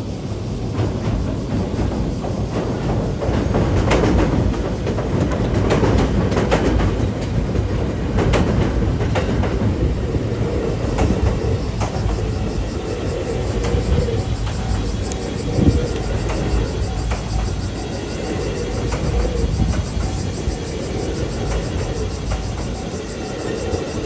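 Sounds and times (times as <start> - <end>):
train wheels rumbling on rails: 0.0 - 24.0
wheels clicking over rail joints: 0.5 - 24.0.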